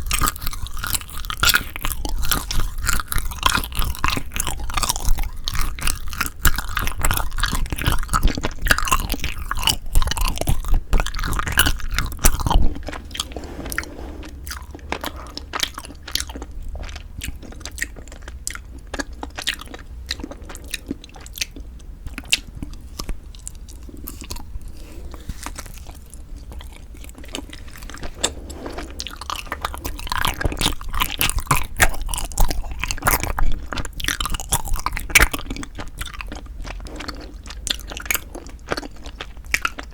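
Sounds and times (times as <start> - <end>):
chewing sticky food: 0.0 - 39.9.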